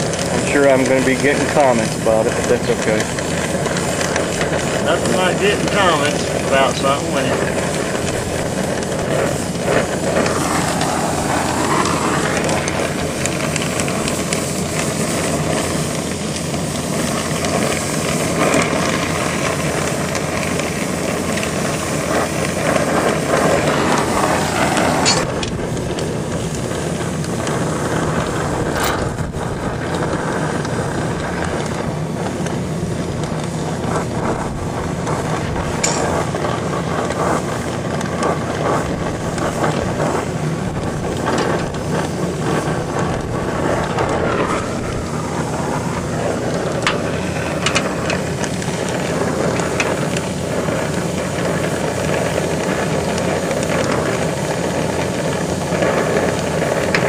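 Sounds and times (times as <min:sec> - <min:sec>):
torch flame burning: 0:00.0 - 0:57.0.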